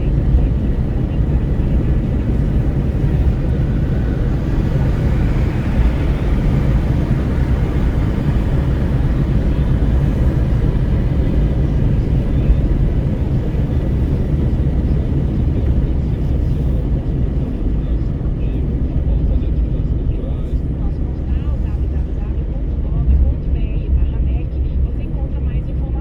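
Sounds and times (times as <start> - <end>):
wind rushing through car window: 0.0 - 25.4
steady road noise: 0.0 - 26.0.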